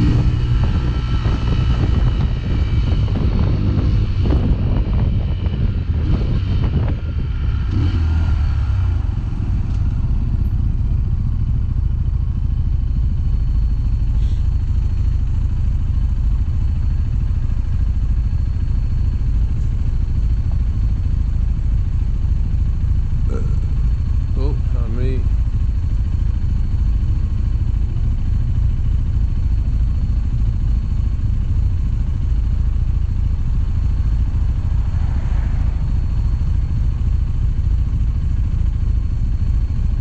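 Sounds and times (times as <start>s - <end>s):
small motorcycle engine rumbling: 0.0s - 40.0s.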